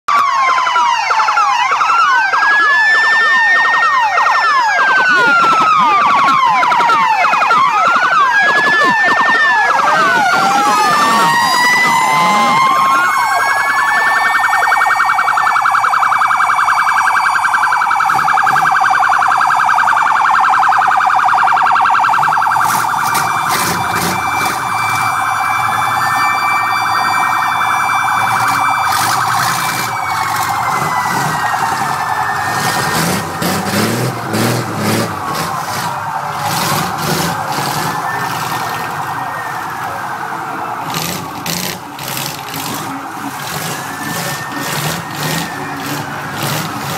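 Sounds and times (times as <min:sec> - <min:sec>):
sirens wailing: 0:00.0 - 0:46.9.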